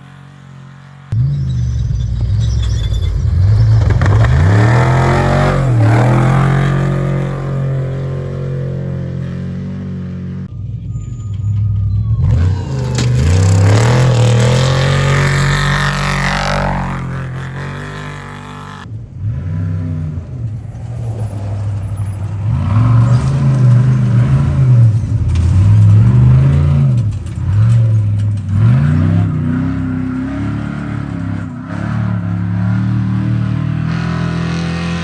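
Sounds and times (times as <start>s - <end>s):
race truck engines revving: 0.0s - 35.0s.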